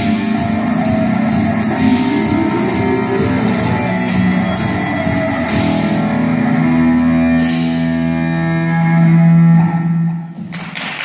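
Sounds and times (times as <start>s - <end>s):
guitar band music: 0.0s - 10.4s.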